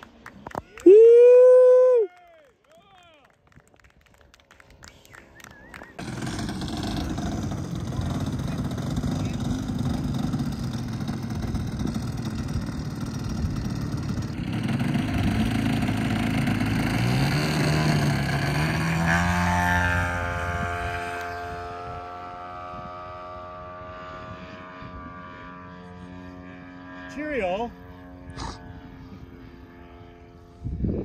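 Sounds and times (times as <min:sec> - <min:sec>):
model airplane engine: 0:02.8 - 0:31.0.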